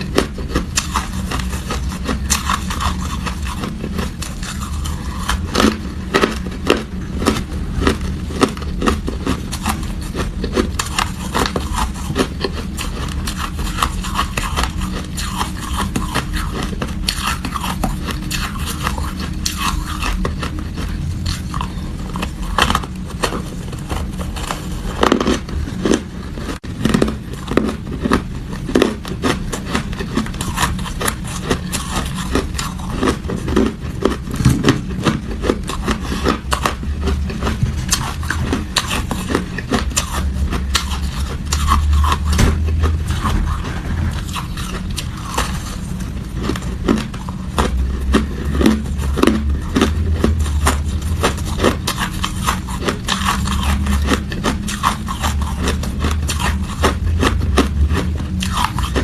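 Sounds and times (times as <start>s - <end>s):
chewing ice crunching: 0.0s - 59.0s
steady low hum: 0.0s - 59.0s.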